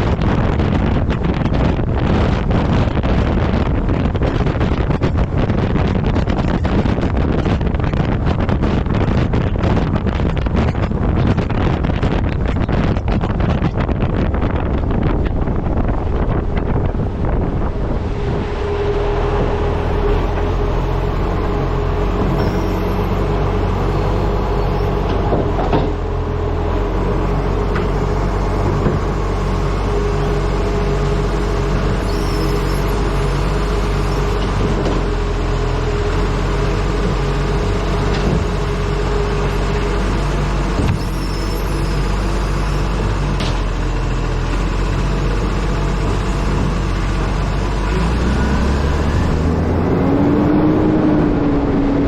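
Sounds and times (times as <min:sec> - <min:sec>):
truck diesel engine running: 0:00.0 - 0:52.0
wind buffeting microphone: 0:00.0 - 0:52.0.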